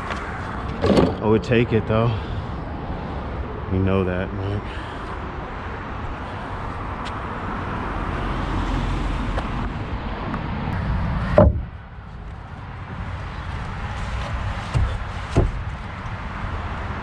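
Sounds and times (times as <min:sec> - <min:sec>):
outdoor street rumble: 0:00.0 - 0:17.0.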